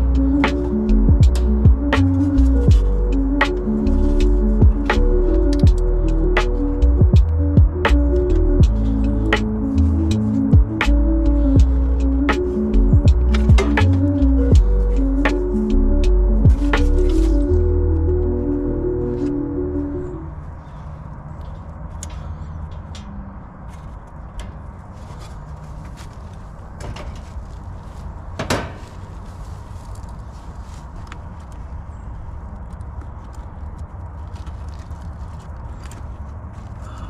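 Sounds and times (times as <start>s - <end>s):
steady low hum: 0.0s - 30.6s.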